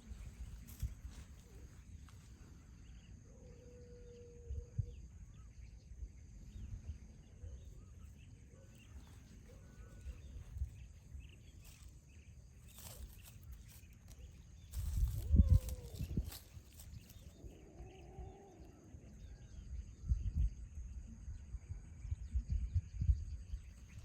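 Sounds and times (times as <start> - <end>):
faint chirps: 0.0 - 24.0.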